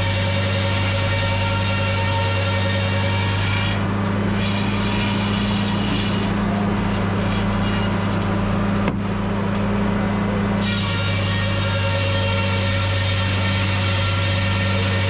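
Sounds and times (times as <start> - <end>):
engine and sawmill humming: 0.0 - 15.0.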